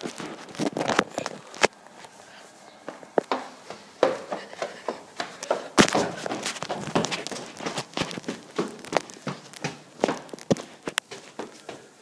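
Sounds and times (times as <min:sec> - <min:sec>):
footsteps on hard surface: 0:00.0 - 0:12.0.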